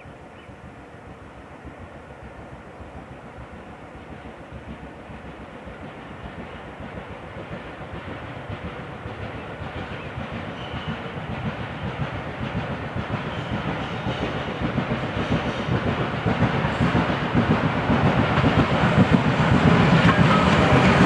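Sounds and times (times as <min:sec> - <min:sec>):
steam locomotive exhaust beats: 0:00.0 - 0:21.0.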